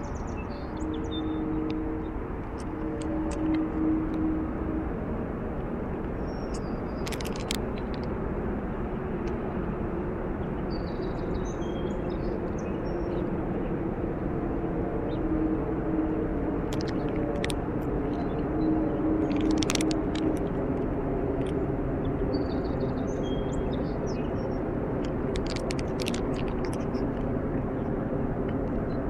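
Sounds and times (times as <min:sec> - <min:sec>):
distant highway traffic: 0:00.0 - 0:29.0
low hollow hum: 0:00.0 - 0:29.0.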